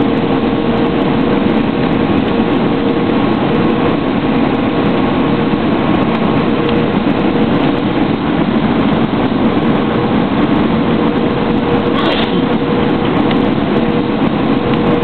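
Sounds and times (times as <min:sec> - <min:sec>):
airplane cabin engine and airflow: 0:00.0 - 0:15.0.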